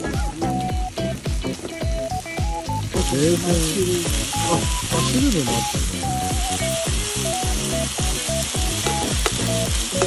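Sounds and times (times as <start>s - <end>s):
background music with beat: 0.0s - 10.0s
meat sizzling in a pan: 0.0s - 10.0s
utensil turning food in pan: 0.0s - 10.0s.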